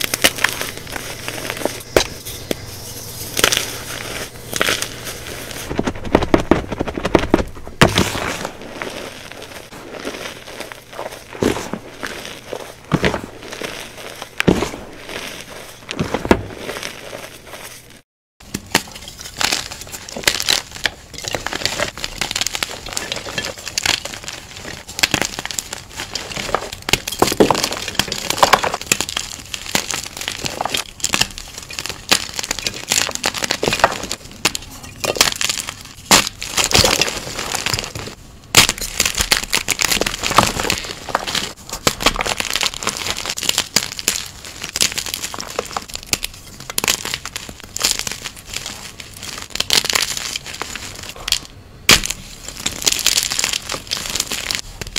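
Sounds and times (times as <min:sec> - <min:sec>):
chalk crunching and cracking: 0:00.0 - 0:54.9.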